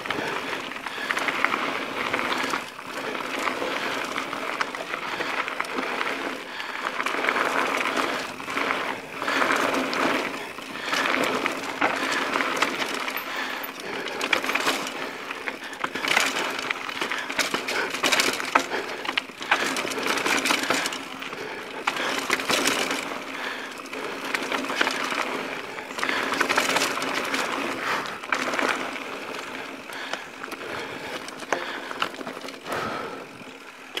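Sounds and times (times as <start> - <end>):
bike frame and chain rattling: 0.0 - 34.0
tyres crunching over gravel: 0.0 - 34.0.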